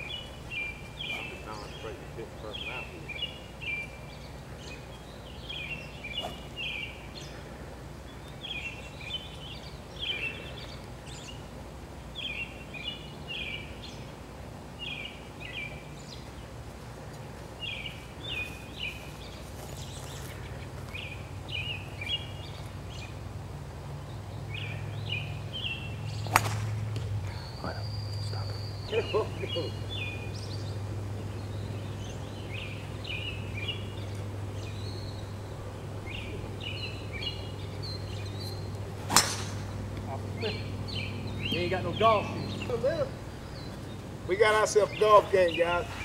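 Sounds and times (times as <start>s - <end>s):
low hum: 0.0s - 44.4s
songbird singing: 0.0s - 46.0s.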